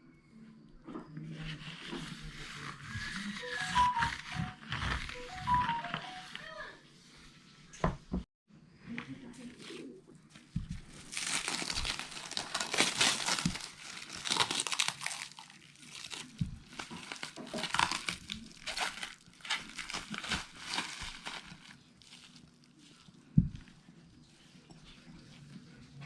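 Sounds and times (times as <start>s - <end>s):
crinkling and rustling: 1.0s - 6.5s, 9.4s - 26.0s.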